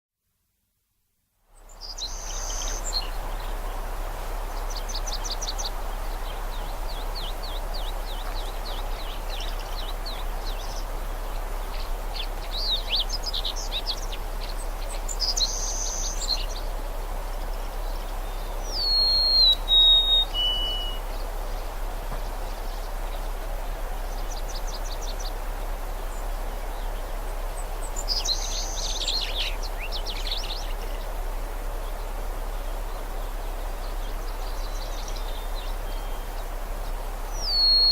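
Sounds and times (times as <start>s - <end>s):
songbirds chirping and trilling: 1.6s - 37.9s.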